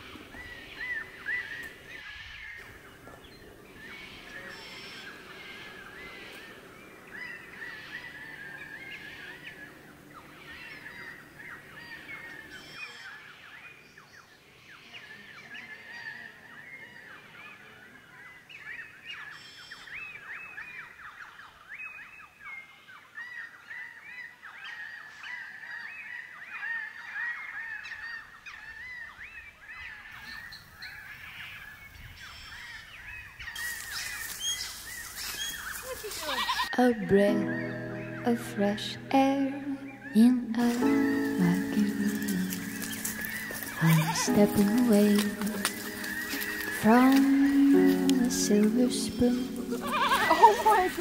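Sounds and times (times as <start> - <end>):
wild birds chirping: 0.0 - 51.0.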